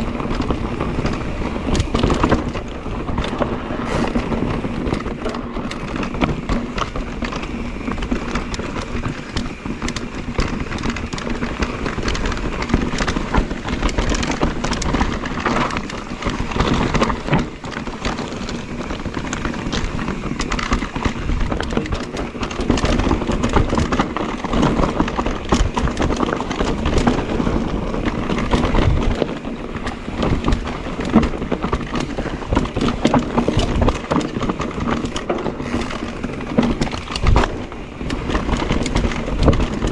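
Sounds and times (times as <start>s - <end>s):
bike clattering: 0.0s - 39.9s
tyres crunching over gravel: 0.0s - 39.9s.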